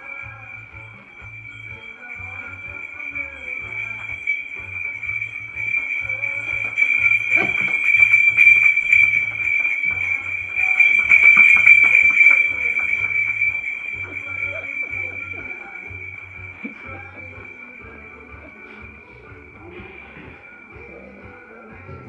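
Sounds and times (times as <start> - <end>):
animal neck bells jingling: 0.0 - 22.0.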